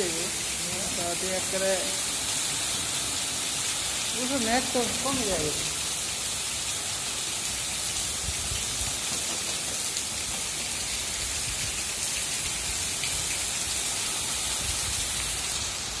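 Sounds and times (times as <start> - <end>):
heavy rain on pavement: 0.0 - 16.0.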